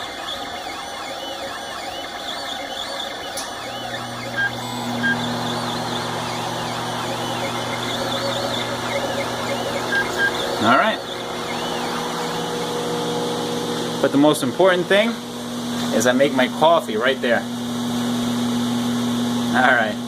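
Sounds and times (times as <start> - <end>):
three-d printer stepper motors: 0.0 - 16.2.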